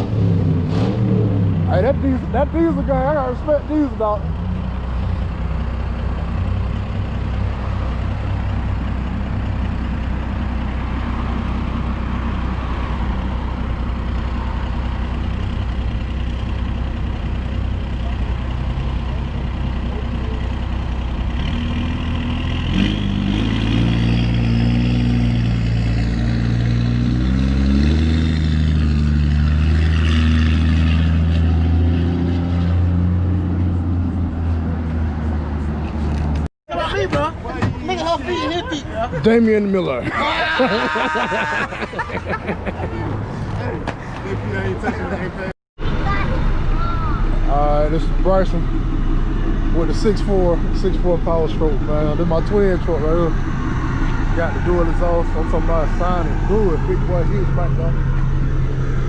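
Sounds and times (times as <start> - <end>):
diesel truck engine idling and revving: 0.0 - 59.0.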